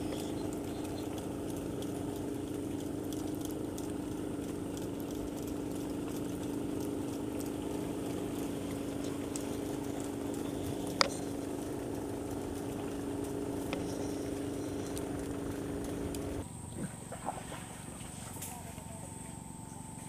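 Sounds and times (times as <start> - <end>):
faint ticks: 0.0 - 16.4
low motor hum: 0.0 - 20.0.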